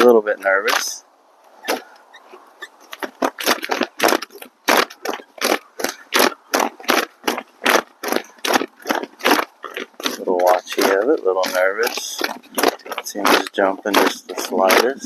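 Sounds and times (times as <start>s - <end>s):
flag flapping and crackling: 0.0s - 15.0s.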